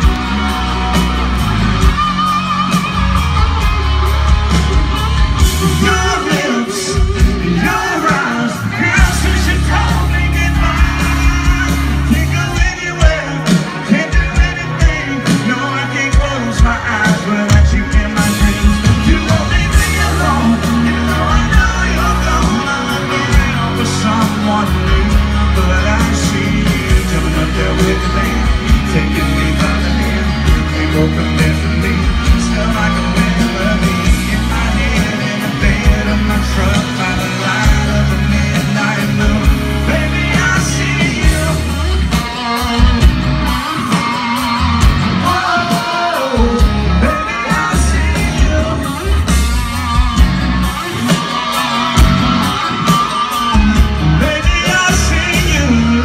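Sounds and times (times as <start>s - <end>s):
drum and bass beat: 0.0s - 56.0s
live country band playing: 0.0s - 56.0s
man singing: 4.2s - 56.0s.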